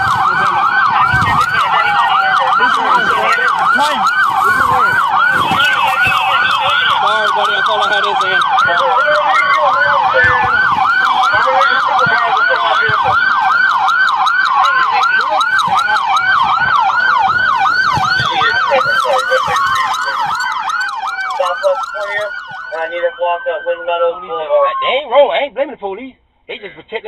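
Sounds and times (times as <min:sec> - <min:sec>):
police siren yelp: 0:00.0 - 0:25.2
siren wail: 0:00.0 - 0:25.2.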